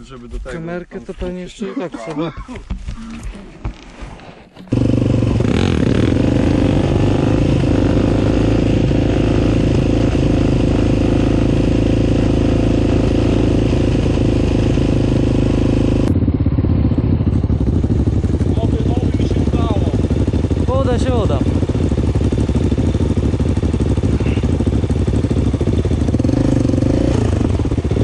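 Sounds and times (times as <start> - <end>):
quad engine cruising: 4.6 - 28.0.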